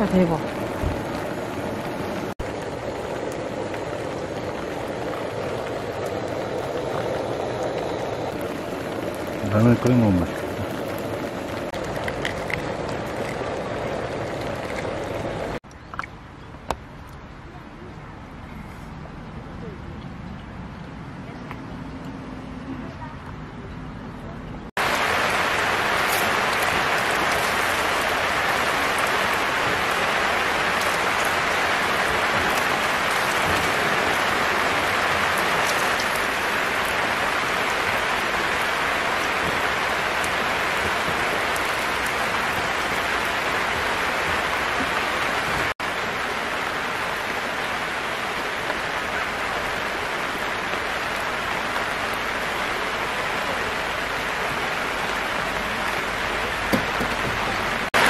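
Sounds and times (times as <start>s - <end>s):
rain pattering on a tarp: 0.0s - 15.6s, 24.8s - 58.0s
water running off: 0.0s - 15.6s, 24.8s - 58.0s.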